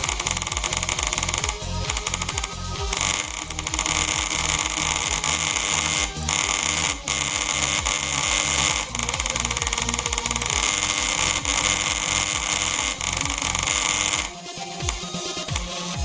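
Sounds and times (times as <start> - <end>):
rapid mouse clicking: 0.0 - 15.9.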